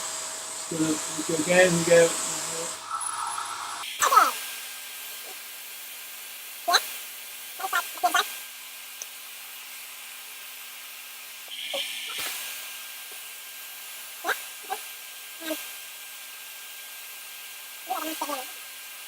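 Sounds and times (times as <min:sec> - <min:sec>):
vacuum cleaner running: 0:00.0 - 0:10.2, 0:10.8 - 0:19.0.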